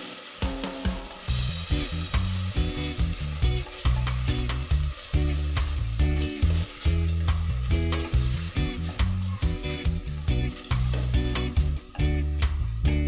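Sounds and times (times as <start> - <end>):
food sizzling in a frying pan: 0.0 - 13.0
music with bass and beat: 0.4 - 13.0.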